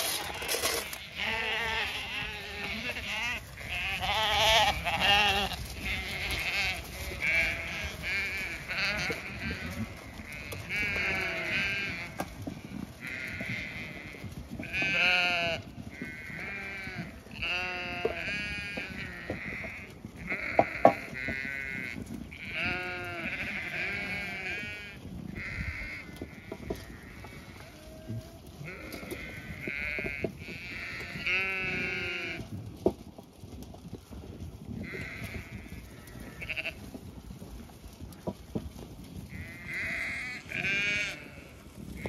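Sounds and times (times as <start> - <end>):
lambs bleating: 0.0 - 32.6, 34.8 - 36.8, 39.3 - 42.0.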